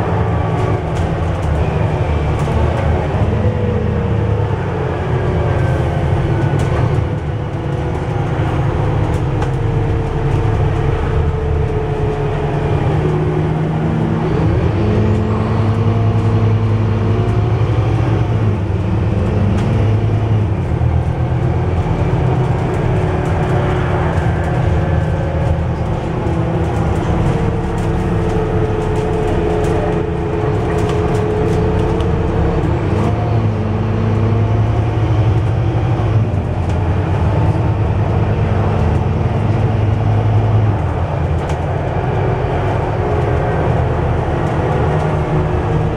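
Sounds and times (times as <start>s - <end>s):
bus diesel engine drone: 0.0s - 45.9s
road noise: 0.0s - 45.9s.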